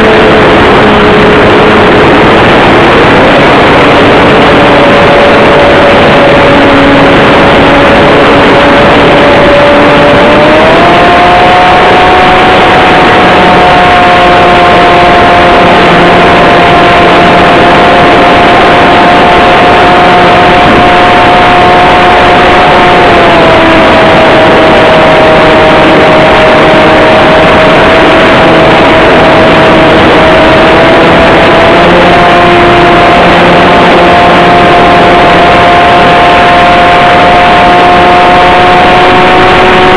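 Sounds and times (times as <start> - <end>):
model plane motor whine: 0.0 - 39.9
wind and vibration noise: 0.0 - 39.9.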